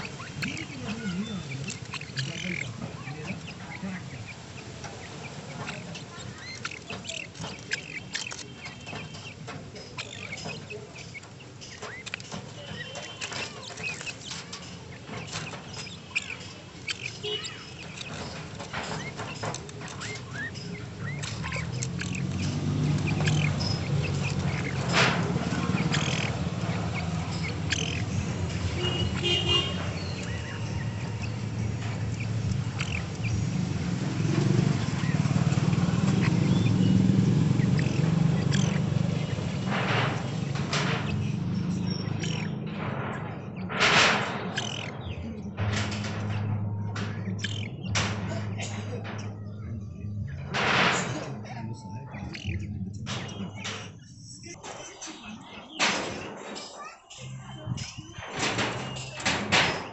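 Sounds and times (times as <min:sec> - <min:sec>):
scattered ticks: 0:00.0 - 0:59.9
young birds chirping: 0:00.0 - 0:59.9.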